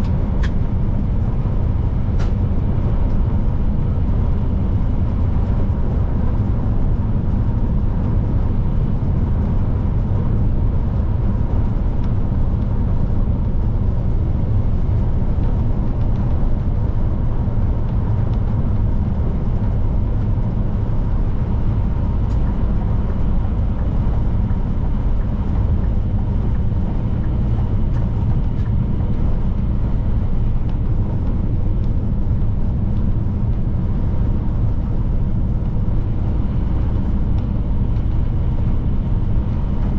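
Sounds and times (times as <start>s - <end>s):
truck engine drone: 0.0s - 39.9s.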